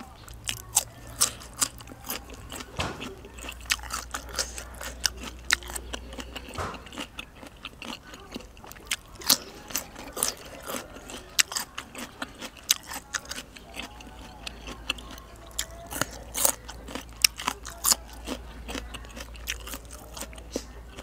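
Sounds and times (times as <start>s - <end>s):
person chewing crunchy vegetables: 0.0s - 21.0s.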